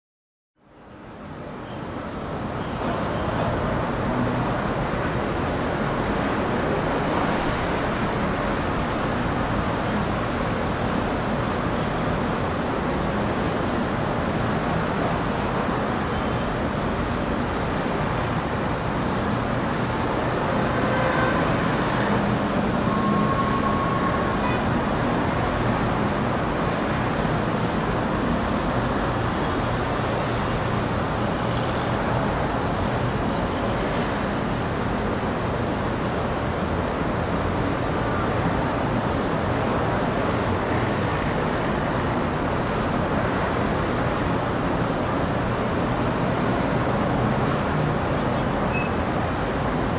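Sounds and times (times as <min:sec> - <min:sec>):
city traffic noise: 0:00.6 - 0:49.9.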